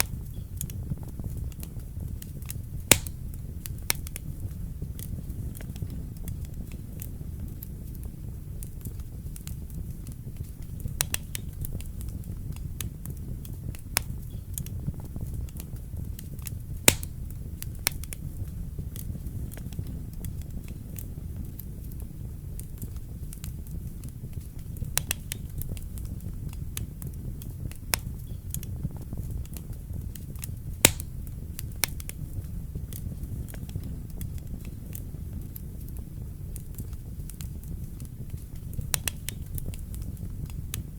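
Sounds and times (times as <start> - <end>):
fire pops and crackles: 0.0 - 40.9
fire rumble: 0.0 - 40.9.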